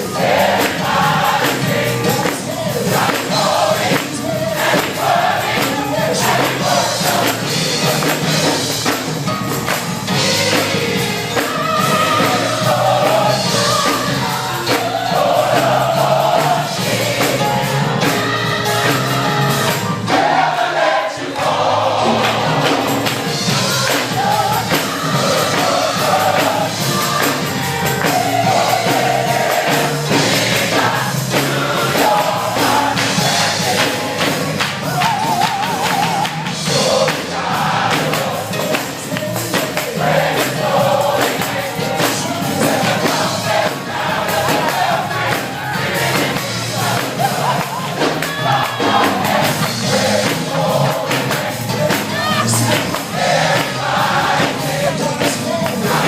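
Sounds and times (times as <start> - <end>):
gospel choir singing: 0.0 - 56.0
instrumental accompaniment: 0.0 - 56.0.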